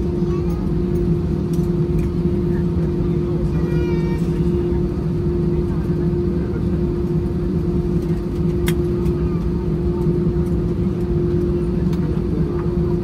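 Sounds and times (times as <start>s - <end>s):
constant hum: 0.0s - 13.0s
jet engines idling rumble: 0.0s - 13.0s.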